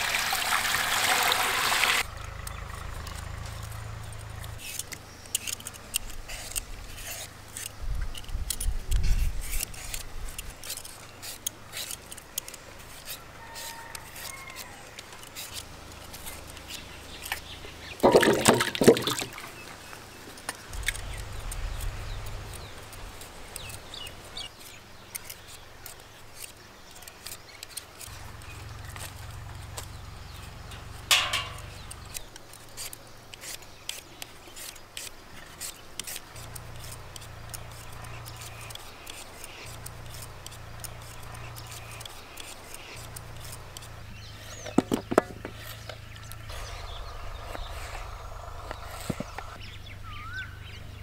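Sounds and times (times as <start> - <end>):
peelers scraping potatoes: 2.4 - 50.4.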